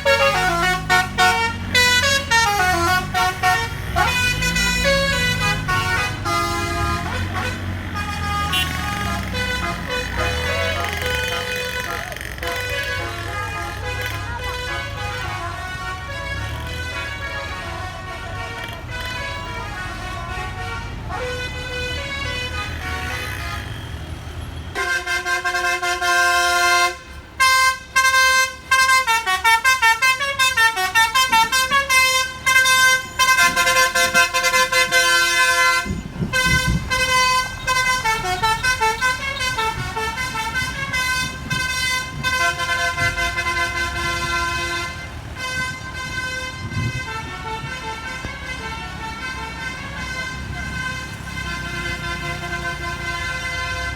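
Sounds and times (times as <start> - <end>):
musical air horn playing a tune: 0.0 - 23.7, 24.8 - 53.9
bus engine rumble: 0.0 - 53.9.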